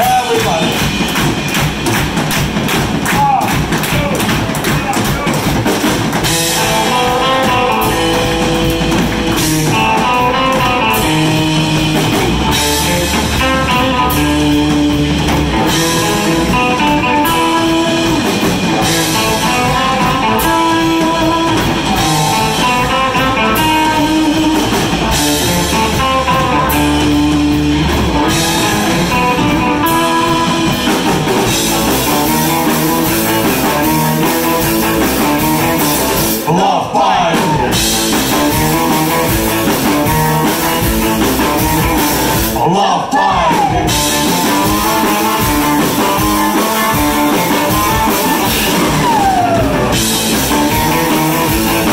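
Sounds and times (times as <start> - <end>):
deep bass balalaika notes: 0.0 - 36.6, 43.6 - 51.9
drum kit: 0.0 - 51.9
electric guitar melody: 5.9 - 36.4, 37.6 - 42.6, 43.9 - 51.9.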